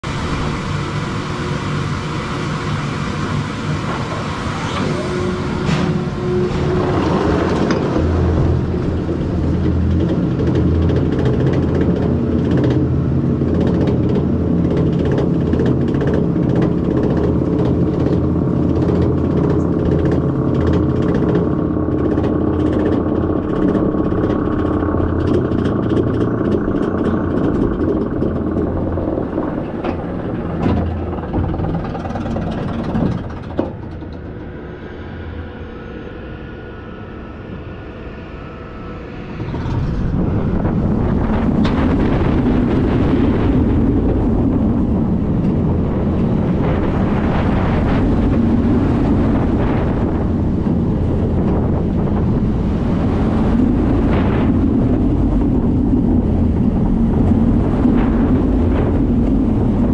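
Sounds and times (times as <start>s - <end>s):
chain lift drone: 0.0s - 59.9s
roller coaster lift clicking: 0.1s - 36.3s, 38.1s - 59.9s.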